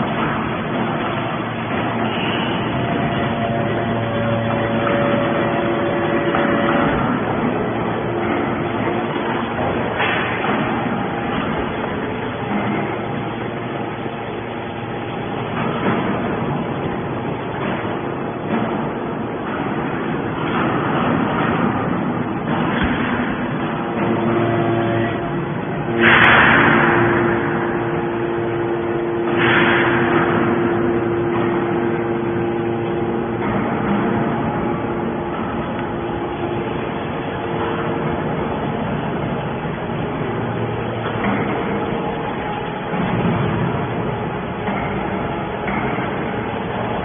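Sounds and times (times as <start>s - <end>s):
baler machine drone: 0.0s - 47.0s
loud noisy surge: 0.0s - 47.0s.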